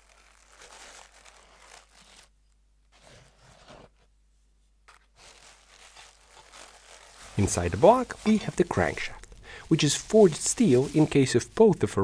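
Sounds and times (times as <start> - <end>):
faint rustling and handling: 0.0 - 12.0.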